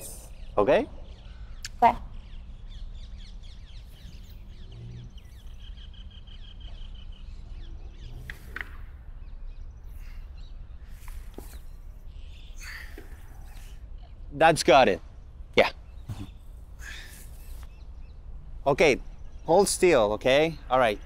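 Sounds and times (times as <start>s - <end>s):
steady low rumble: 0.0s - 20.4s
small birds chirping: 0.0s - 21.0s.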